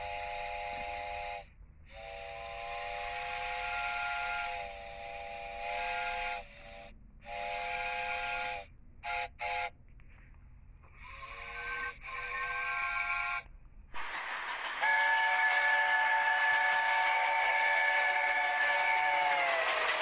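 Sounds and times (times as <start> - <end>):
steam locomotive chime whistle: 0.0 - 9.8, 11.0 - 13.5, 14.7 - 20.0.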